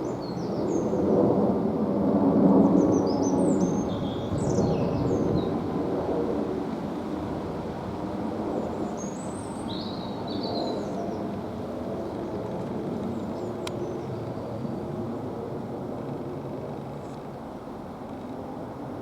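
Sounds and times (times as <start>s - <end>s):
jet engines rumbling overhead: 0.0s - 19.0s.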